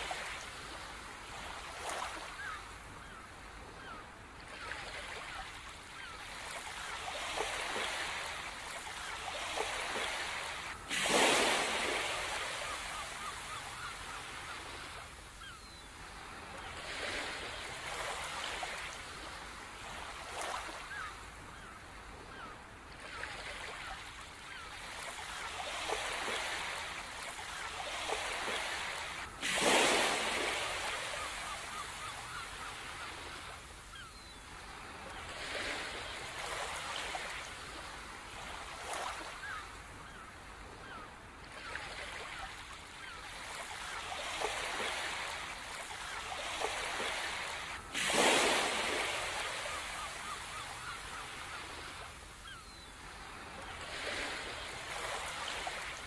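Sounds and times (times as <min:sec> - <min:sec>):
faint bird calls: 0:00.0 - 0:56.0
ocean waves washing ashore: 0:00.0 - 0:56.0.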